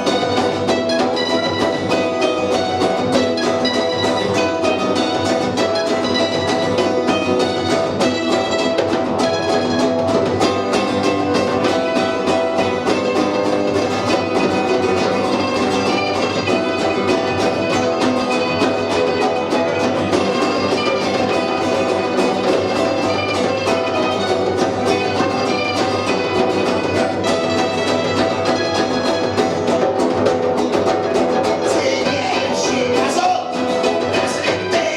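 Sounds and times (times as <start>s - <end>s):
punk rock band playing live: 0.0s - 34.9s.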